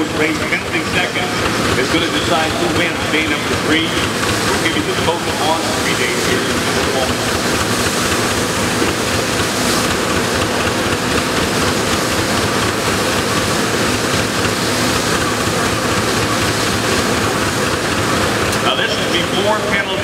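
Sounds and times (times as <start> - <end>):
steam traction engine: 0.0 - 20.0
threshing machine running: 0.0 - 20.0.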